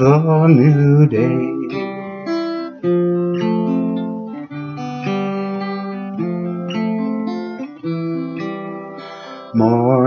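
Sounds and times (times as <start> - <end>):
acoustic guitar strummed: 0.0 - 10.0
harmonica playing melody: 1.1 - 10.0.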